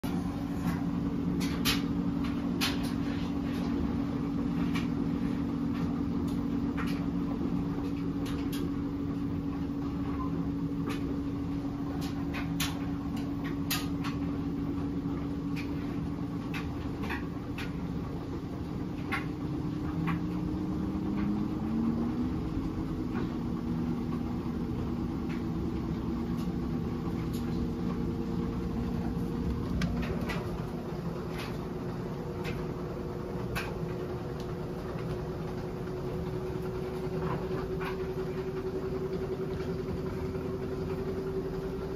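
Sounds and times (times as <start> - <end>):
washing machine drum spinning: 0.0 - 41.9.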